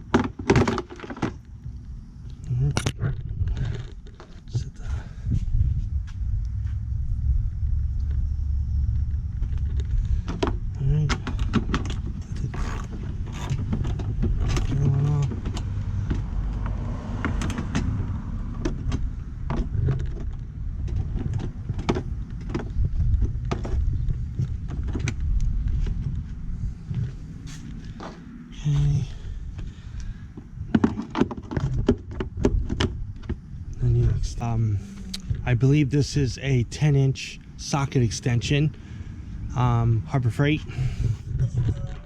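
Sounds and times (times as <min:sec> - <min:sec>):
low rumble: 0:01.4 - 0:30.8, 0:31.6 - 0:42.0.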